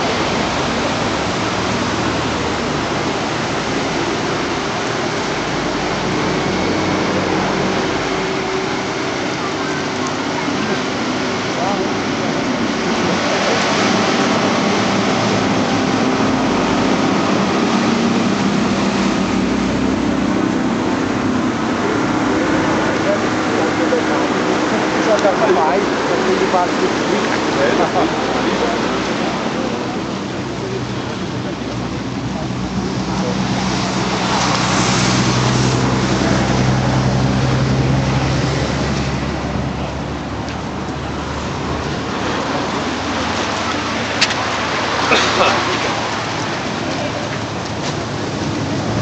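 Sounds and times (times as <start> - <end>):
heavy engine droning: 0.0 - 49.0
steady traffic rush: 0.0 - 49.0.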